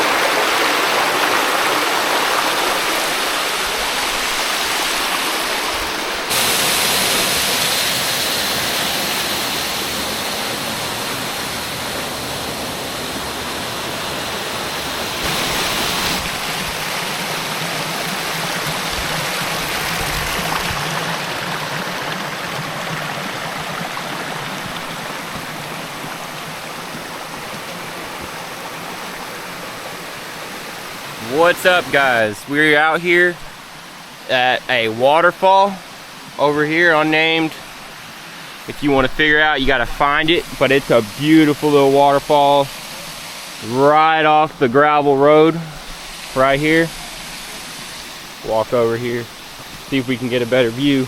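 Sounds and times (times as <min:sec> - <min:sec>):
waterfall roaring: 0:00.0 - 0:51.0.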